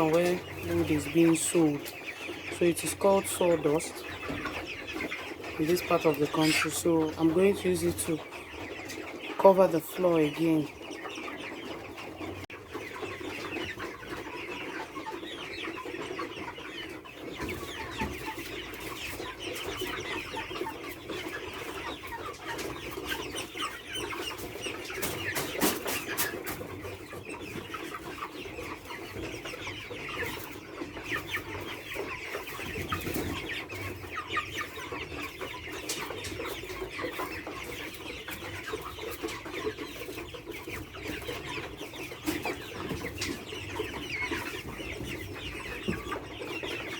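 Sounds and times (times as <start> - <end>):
chickens clucking and cheeping: 0.0 - 46.9.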